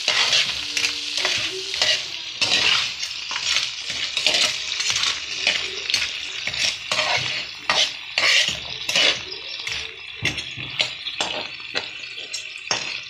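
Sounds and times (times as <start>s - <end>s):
frying sizzle: 0.0s - 13.0s
tongs scraping metal pan: 0.0s - 13.0s.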